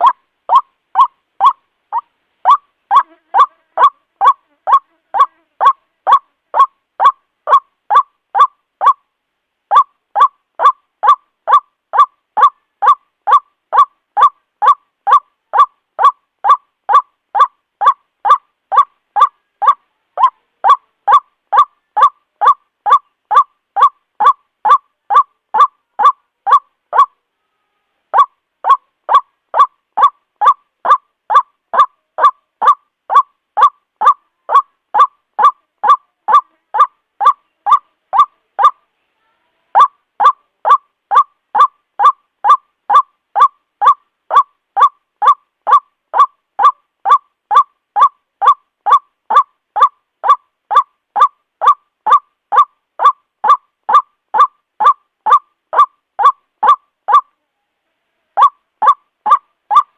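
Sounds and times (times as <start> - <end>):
waterhen croaking call: 0.0 - 9.0, 9.7 - 27.2, 28.1 - 38.8, 39.7 - 57.3, 58.4 - 59.9.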